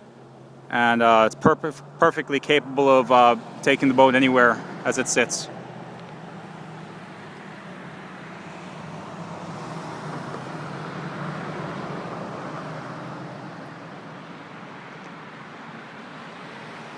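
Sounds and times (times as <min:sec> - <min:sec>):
road traffic hum: 0:00.0 - 0:16.9
vehicle passing: 0:00.1 - 0:16.9.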